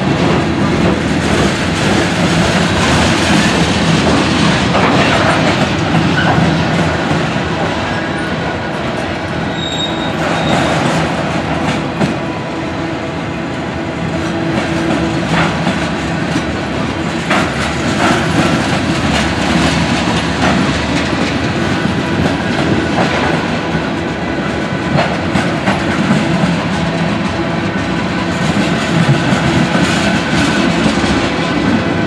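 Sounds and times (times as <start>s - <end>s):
steel wheels rumbling on rail: 0.0s - 32.0s.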